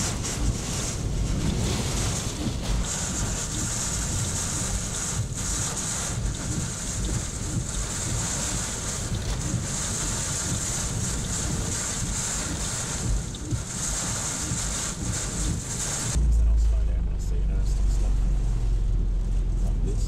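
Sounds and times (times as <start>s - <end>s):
rain and road spray hissing: 0.0s - 16.6s, 17.8s - 20.0s
low rumble of wind gusts: 0.0s - 20.0s.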